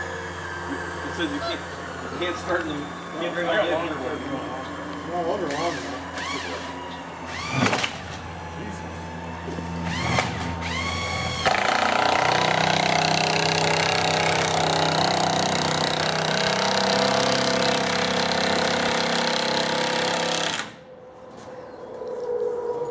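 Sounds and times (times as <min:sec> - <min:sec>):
power drill running: 0:00.0 - 0:08.0, 0:09.5 - 0:20.8.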